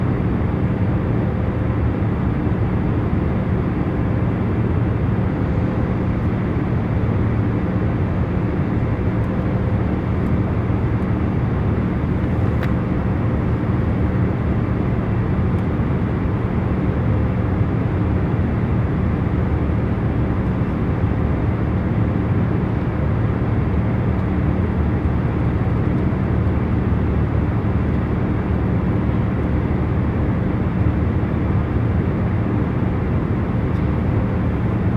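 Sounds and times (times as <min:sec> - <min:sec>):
faint constant hum: 0:00.0 - 0:34.9.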